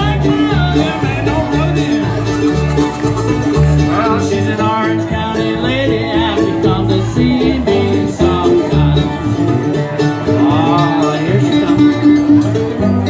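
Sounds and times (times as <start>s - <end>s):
acoustic blues band playing: 0.0s - 13.0s.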